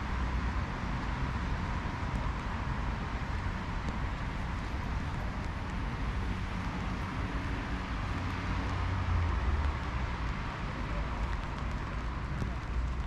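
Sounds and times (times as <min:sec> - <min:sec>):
traffic hiss: 0:00.0 - 0:13.0
vehicle passing with low rumble: 0:00.0 - 0:13.0.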